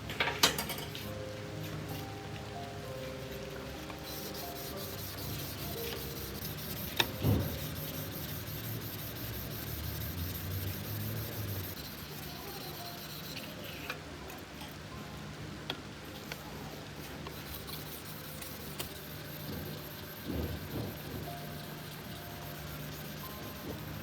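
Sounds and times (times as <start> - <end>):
faint background music: 0.0 - 24.0.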